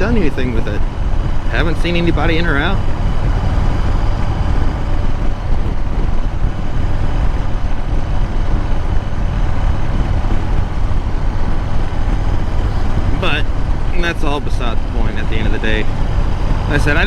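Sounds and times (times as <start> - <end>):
motorcycle engine cruising: 0.0 - 17.0
wind noise rushing: 0.0 - 17.0.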